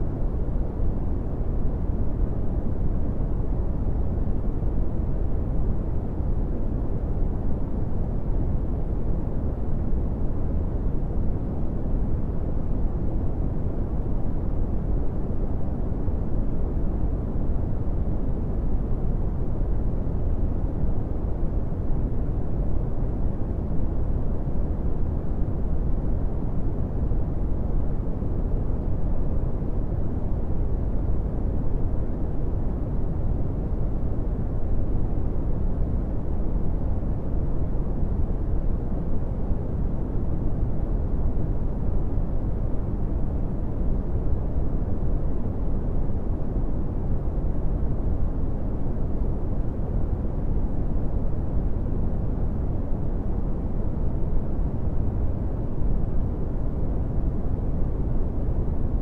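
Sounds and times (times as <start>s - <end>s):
brown noise rumble: 0.0s - 59.0s.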